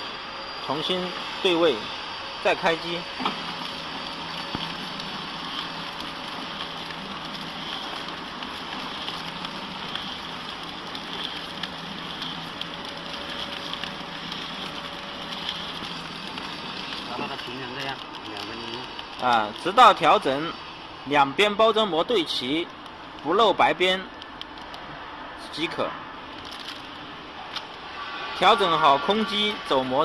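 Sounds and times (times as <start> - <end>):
wrapping machine running: 0.0 - 30.0
fine crackle: 2.5 - 20.8, 21.4 - 30.0.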